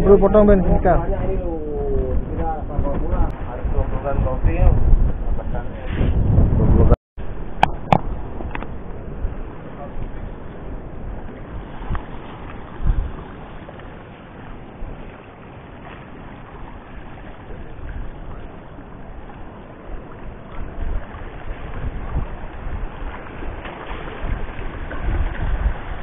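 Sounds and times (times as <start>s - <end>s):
choppy sea on rocky shore: 0.0s - 26.0s
low bumps: 0.0s - 26.0s
wind buffeting microphone: 0.0s - 26.0s.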